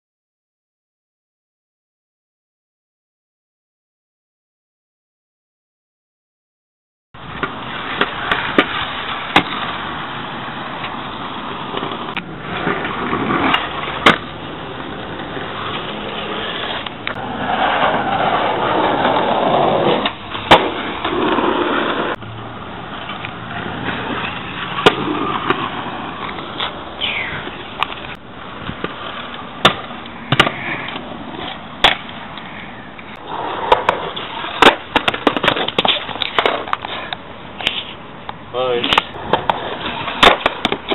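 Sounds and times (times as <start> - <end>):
skateboard clacking on ground: 7.2 - 22.2, 22.8 - 40.9
skateboard wheels rolling on concrete: 7.2 - 40.9.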